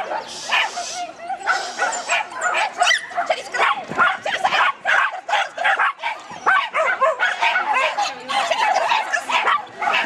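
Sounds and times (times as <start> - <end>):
dog yapping: 0.1 - 10.0.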